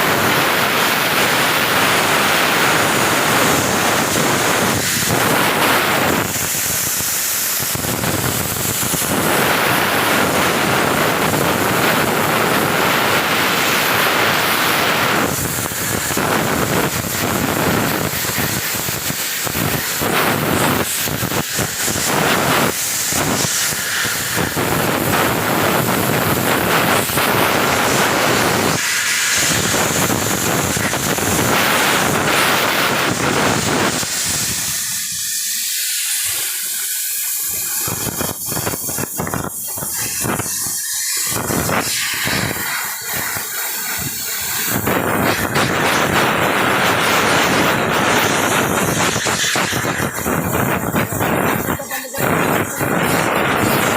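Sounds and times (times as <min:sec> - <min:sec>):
pressurised jet hissing: 0:00.0 - 0:53.9.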